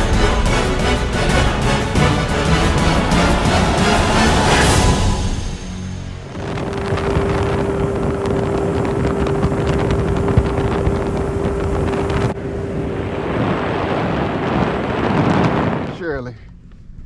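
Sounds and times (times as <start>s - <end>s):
boat motor humming: 0.0s - 15.4s
wind noise on microphone: 0.0s - 17.0s.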